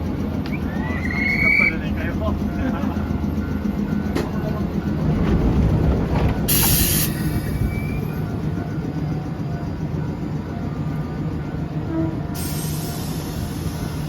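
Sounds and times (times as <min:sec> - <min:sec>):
train motor and wheels rumbling: 0:00.0 - 0:14.0.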